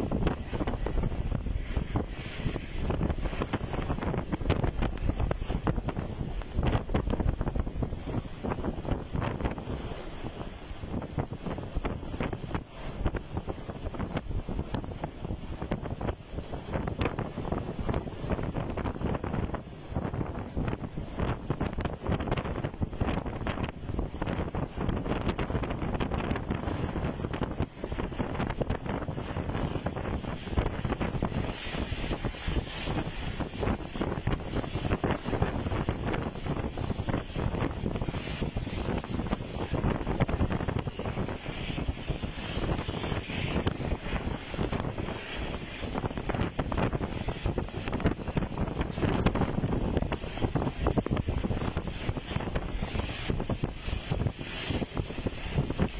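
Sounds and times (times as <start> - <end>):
gusting wind buffeting microphone: 0.0 - 55.9
higher hiss: 0.0 - 55.9
rain hiss: 0.0 - 55.9.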